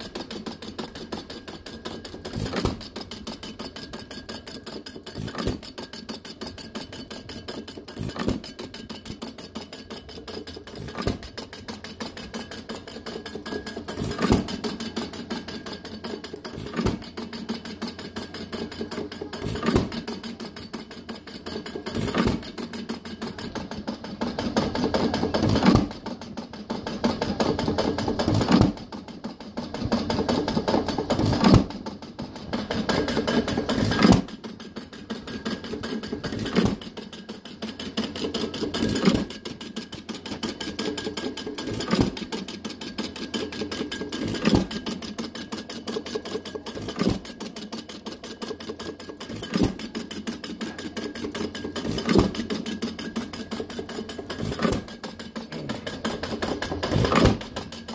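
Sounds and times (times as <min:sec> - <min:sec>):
fast clicking of coasting flywheels: 0:00.0 - 0:57.9.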